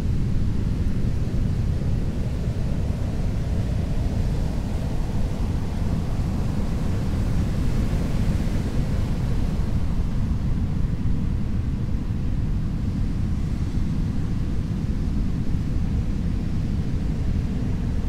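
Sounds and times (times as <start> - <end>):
low rumble of surf: 0.0 - 18.0.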